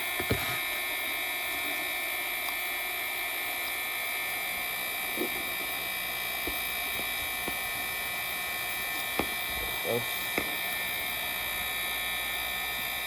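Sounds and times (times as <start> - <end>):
heat gun blowing: 0.0 - 13.0.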